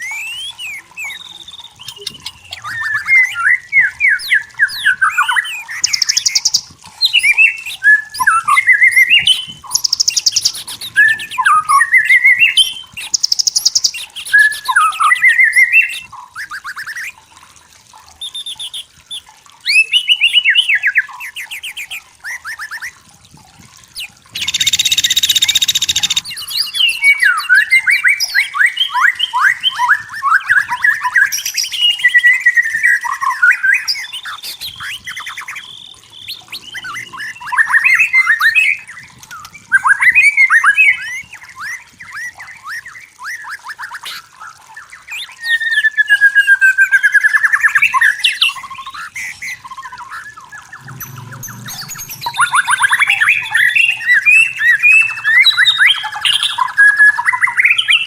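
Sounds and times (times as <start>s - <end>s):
bird singing trills and whistles: 0.0s - 17.4s, 18.1s - 23.0s, 23.8s - 58.0s.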